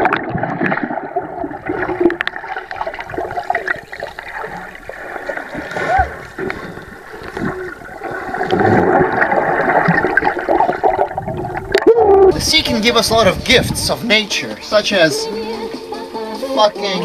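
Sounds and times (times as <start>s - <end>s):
water splashing: 0.0s - 14.8s.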